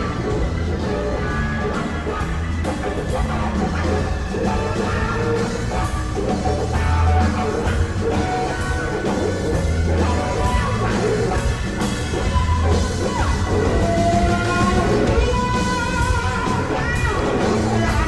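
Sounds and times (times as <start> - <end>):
bass guitar: 0.0 - 18.0
drum kit: 0.0 - 18.0
electric guitar playing lines: 0.0 - 18.0.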